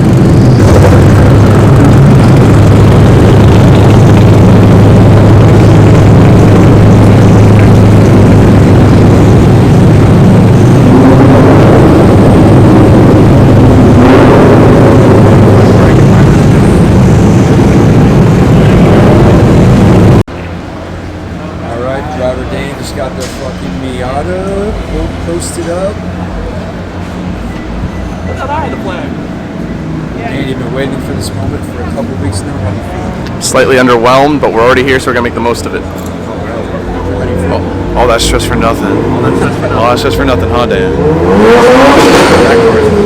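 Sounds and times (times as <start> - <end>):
car engine running at low revs: 0.0 - 43.0.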